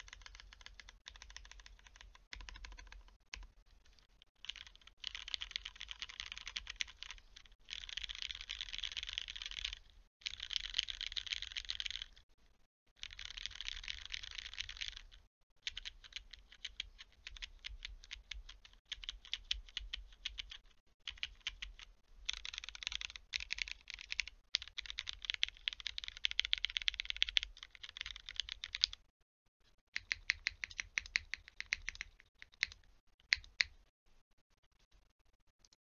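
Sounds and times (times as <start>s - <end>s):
mechanical keyboard typing: 0.0s - 12.2s, 13.0s - 29.0s, 30.0s - 33.8s.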